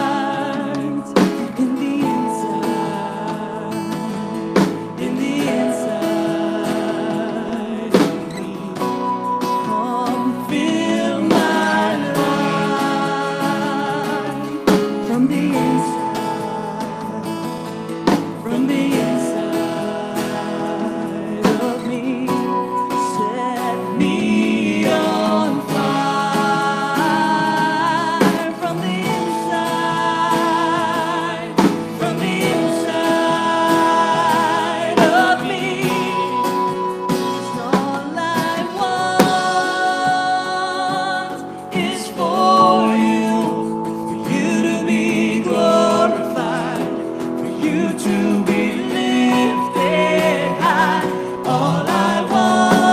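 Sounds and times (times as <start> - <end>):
woman singing with vibrato: 0.0 - 17.6, 18.3 - 52.9
acoustic guitar: 0.0 - 52.9
band accompaniment: 0.0 - 52.9.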